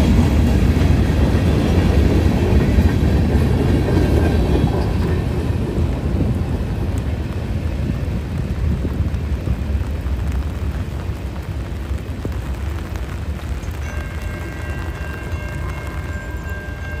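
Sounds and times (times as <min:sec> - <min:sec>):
pouring rain hiss: 0:00.0 - 0:17.0
train rumbling by: 0:00.0 - 0:17.0.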